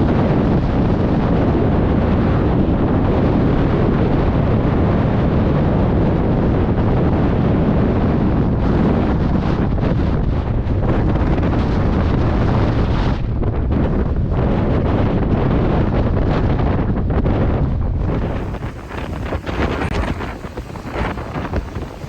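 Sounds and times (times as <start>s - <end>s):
strong wind on microphone: 0.0s - 22.0s.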